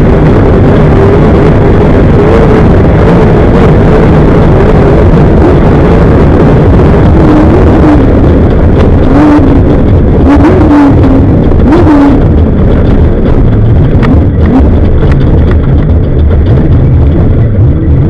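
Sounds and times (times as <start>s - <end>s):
race vehicle engine revving: 0.0s - 18.0s
rough terrain noise: 0.0s - 18.0s
wind rushing: 0.0s - 18.0s.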